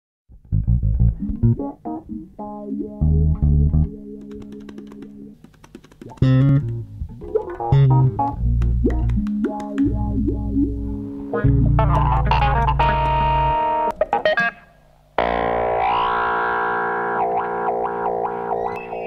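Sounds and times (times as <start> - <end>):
instrumental theme music: 0.3 - 19.0.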